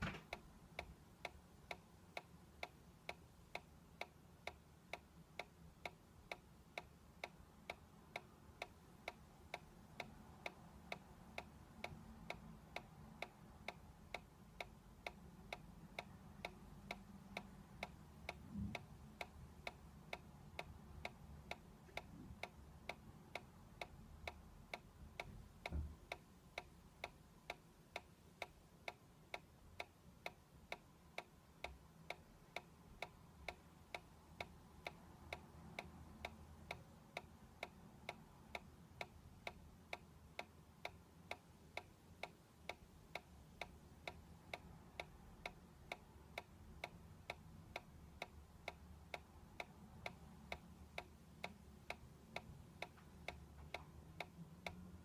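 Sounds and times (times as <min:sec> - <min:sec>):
low room rumble: 0:00.0 - 0:55.0.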